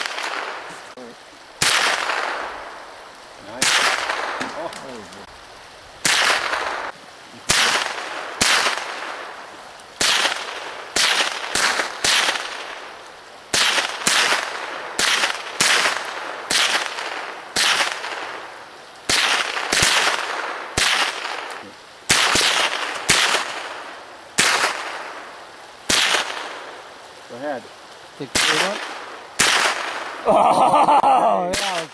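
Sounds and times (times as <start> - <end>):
rifle shots echoing: 0.0 - 0.9, 1.6 - 2.8, 3.4 - 5.0, 6.0 - 26.8, 28.2 - 30.2, 31.5 - 31.9.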